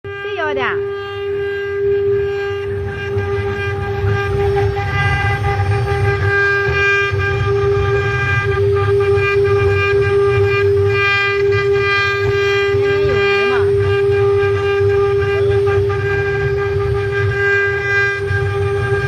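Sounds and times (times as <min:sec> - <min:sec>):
router spindle whine: 0:00.0 - 0:19.0
low rumble of stone cutting: 0:00.1 - 0:19.0.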